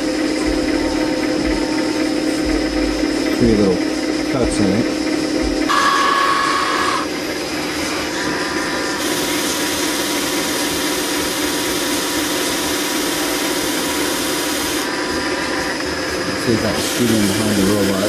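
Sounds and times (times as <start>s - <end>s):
bench buffer motor running: 0.0s - 18.0s
thin whine: 0.0s - 18.0s.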